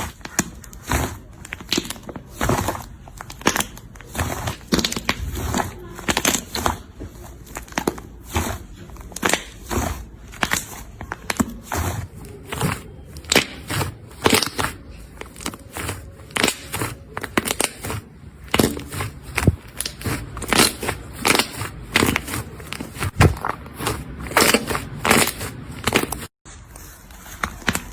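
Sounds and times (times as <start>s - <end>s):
slime crackling and squelching: 0.0s - 27.9s.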